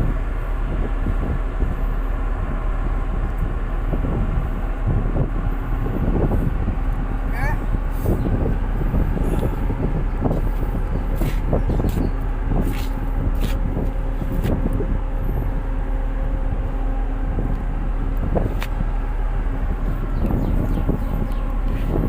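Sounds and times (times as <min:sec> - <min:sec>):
boat diesel engine humming: 0:00.0 - 0:22.0.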